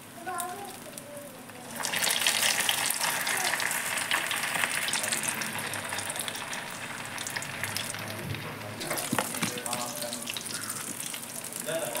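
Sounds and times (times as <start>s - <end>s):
bread deep-frying in hot oil: 0.0s - 12.0s.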